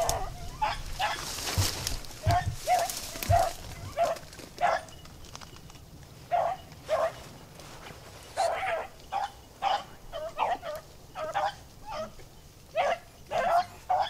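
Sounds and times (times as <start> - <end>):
dogs baying: 0.0 - 5.0, 6.3 - 7.4, 8.4 - 14.0.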